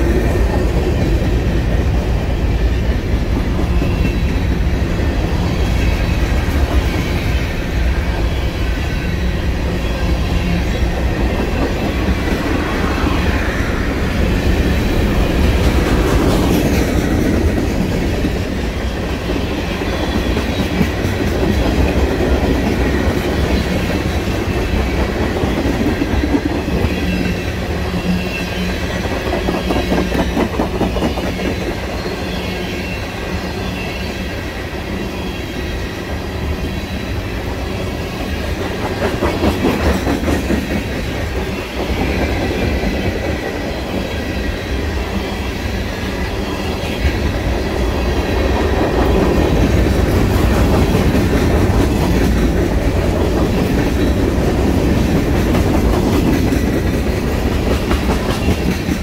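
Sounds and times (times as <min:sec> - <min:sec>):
freight train rolling past: 0:00.0 - 0:59.0
steel wheels rumbling on rails: 0:00.0 - 0:59.0.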